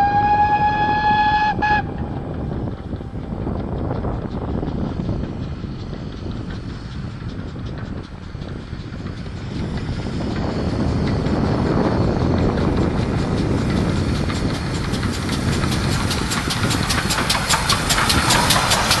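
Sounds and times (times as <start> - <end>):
steam locomotive exhaust beats: 0.0 - 19.0
steam locomotive rumble: 0.0 - 19.0.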